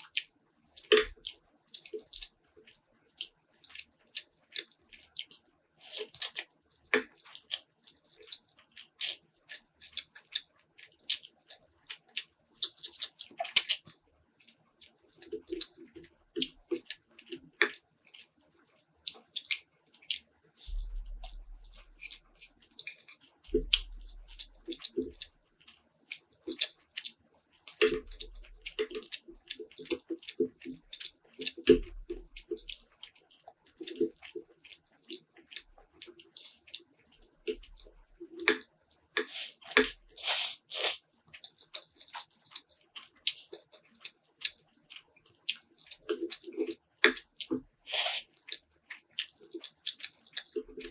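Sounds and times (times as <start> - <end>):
wet chewing and slurping noodles: 0.0 - 50.9.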